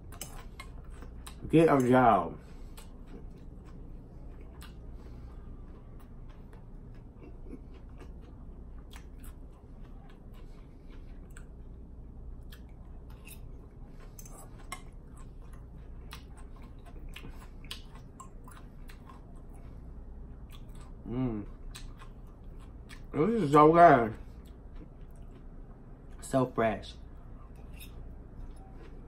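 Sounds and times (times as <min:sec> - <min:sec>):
chewing crisp salad greens: 0:00.0 - 0:29.0
low steady hum: 0:00.0 - 0:29.0.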